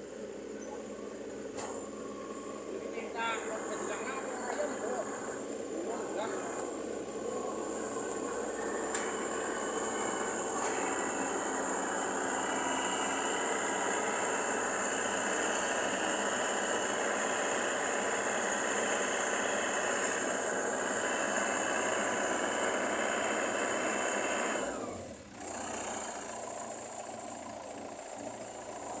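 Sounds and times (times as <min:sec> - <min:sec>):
high steady whine: 0:00.0 - 0:24.8
combine harvester engine: 0:00.0 - 0:29.0.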